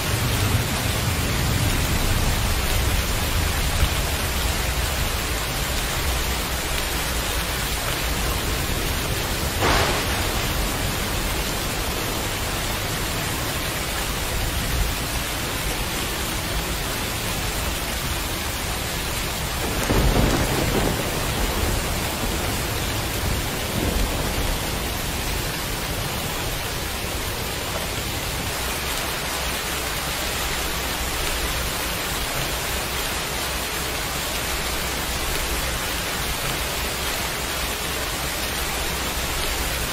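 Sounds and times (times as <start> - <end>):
thunder cracking and rumbling: 0.0 - 37.0
heavy rain falling: 0.0 - 39.9.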